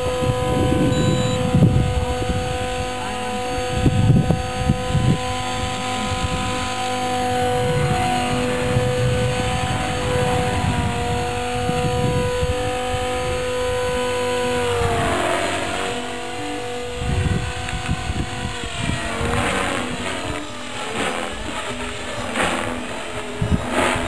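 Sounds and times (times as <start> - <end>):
model helicopter motor whine: 0.0 - 24.0.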